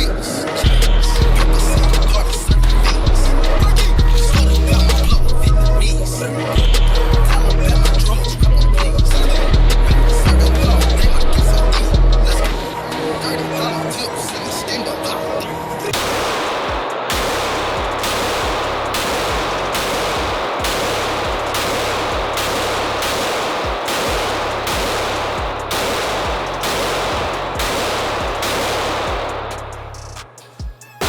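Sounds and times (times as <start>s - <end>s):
background music with steady beat: 0.0s - 31.0s.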